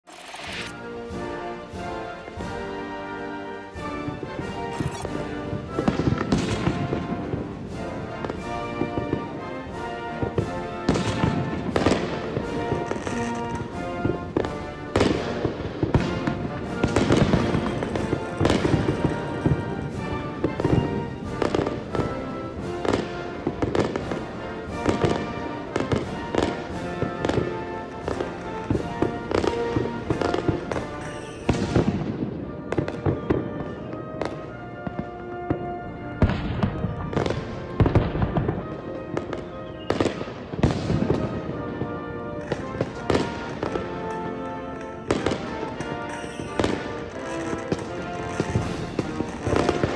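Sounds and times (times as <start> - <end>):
fireworks exploding: 0.1 - 49.9
music playing: 0.1 - 49.9.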